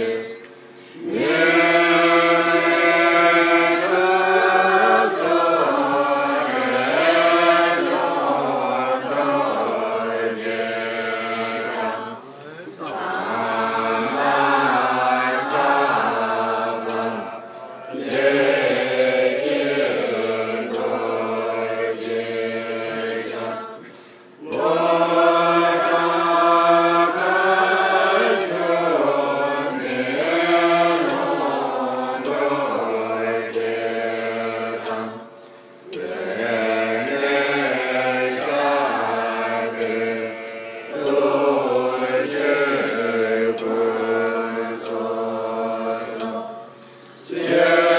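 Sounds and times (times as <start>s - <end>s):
sharp ticking: 0.0s - 12.2s, 12.8s - 23.8s, 24.4s - 35.2s, 35.8s - 47.9s
voices chanting prayers: 0.0s - 47.9s.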